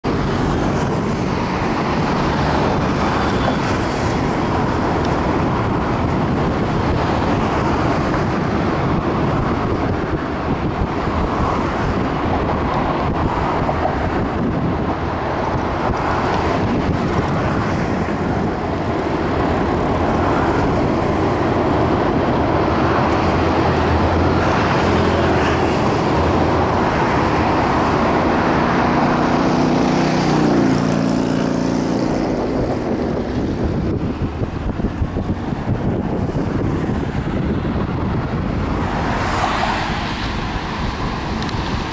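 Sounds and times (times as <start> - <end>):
distant train rumble: 0.0 - 41.9
road traffic noise: 0.0 - 41.9.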